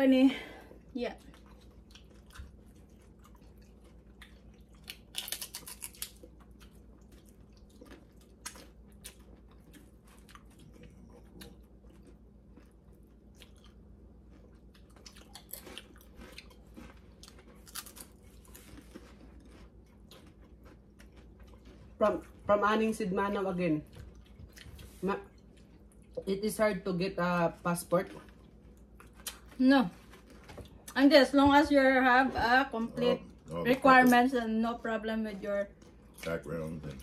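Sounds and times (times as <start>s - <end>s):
people chewing crunchy food: 0.4s - 26.7s, 27.5s - 37.0s.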